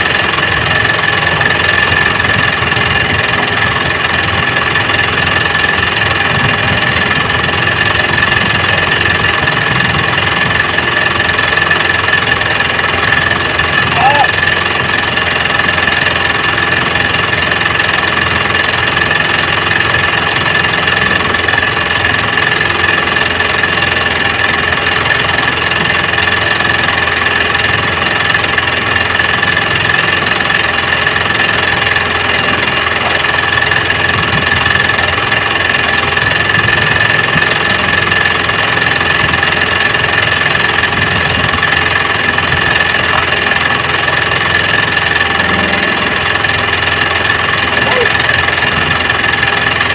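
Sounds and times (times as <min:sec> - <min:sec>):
boat engine with high whine: 0:00.0 - 0:49.9.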